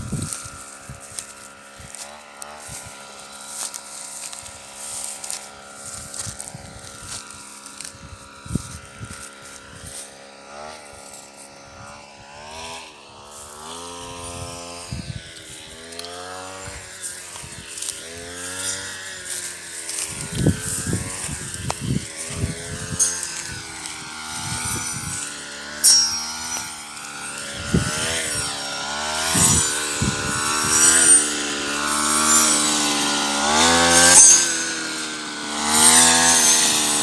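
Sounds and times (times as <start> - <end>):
combine harvester engine humming: 0.0 - 37.0.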